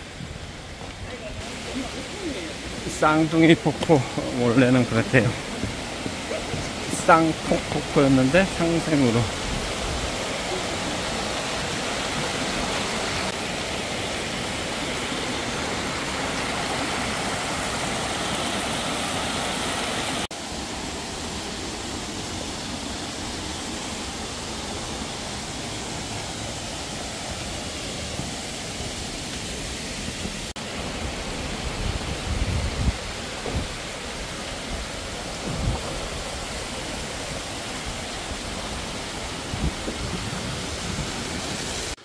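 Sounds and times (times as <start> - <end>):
waterfall rushing into pool: 0.0 - 42.0.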